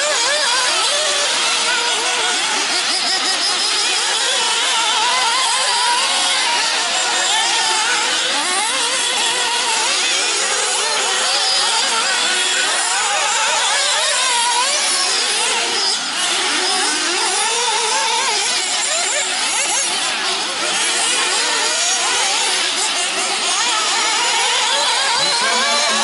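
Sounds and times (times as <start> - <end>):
small engines whining at high revs: 0.0 - 26.0.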